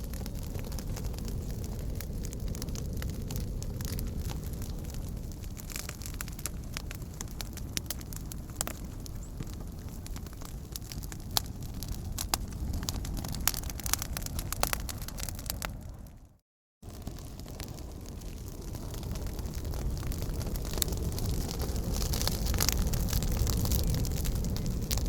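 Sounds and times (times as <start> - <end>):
low rumble of flames: 0.0 - 25.0
wood crackling and popping: 0.0 - 25.0.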